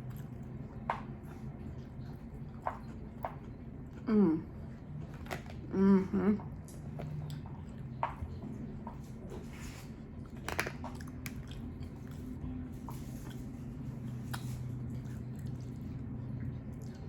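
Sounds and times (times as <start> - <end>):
person chewing food: 0.0 - 5.7, 6.4 - 9.0, 10.0 - 17.0
low steady hum: 0.0 - 17.0.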